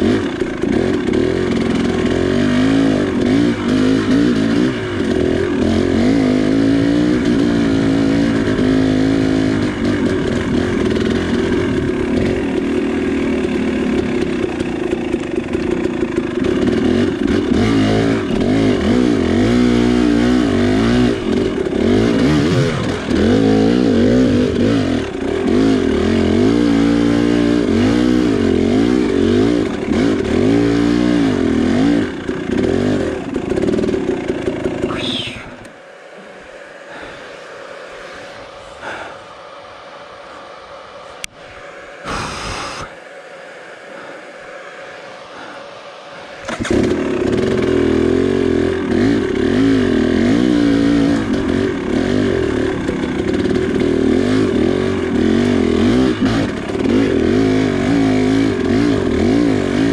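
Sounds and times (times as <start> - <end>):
two-stroke dirt bike engine revving: 0.0 - 59.9.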